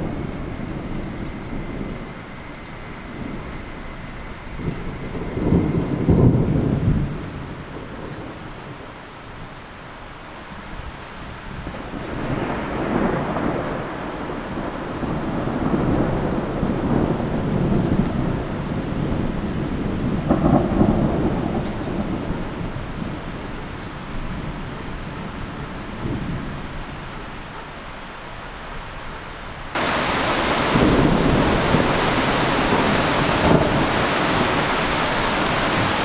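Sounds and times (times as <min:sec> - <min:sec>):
rolling thunder: 0:00.0 - 0:08.9, 0:11.5 - 0:27.0, 0:29.8 - 0:36.0
rain hiss: 0:00.0 - 0:36.0.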